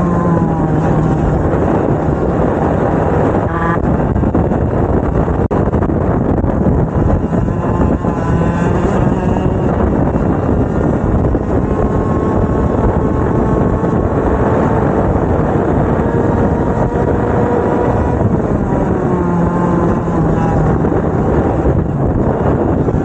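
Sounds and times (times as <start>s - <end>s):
kart engines revving: 0.0s - 23.0s.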